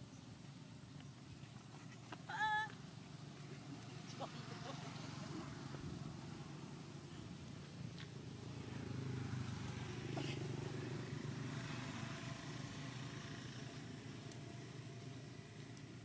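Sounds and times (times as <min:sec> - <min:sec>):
motor vehicle engine hum: 0:00.0 - 0:16.0.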